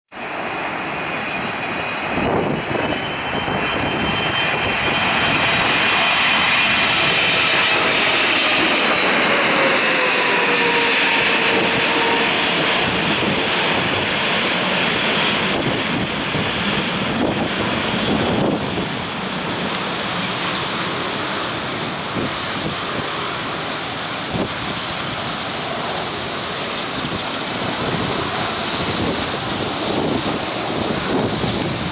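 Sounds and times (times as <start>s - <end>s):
jet engines passing overhead: 0.1s - 31.9s.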